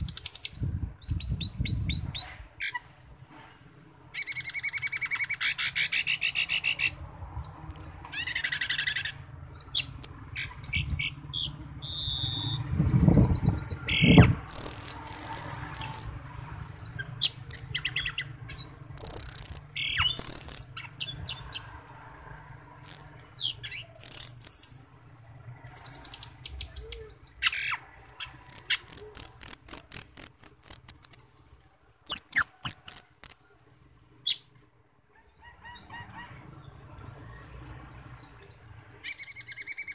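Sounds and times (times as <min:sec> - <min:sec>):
starling singing: 0:00.0 - 0:34.5, 0:35.3 - 0:39.9.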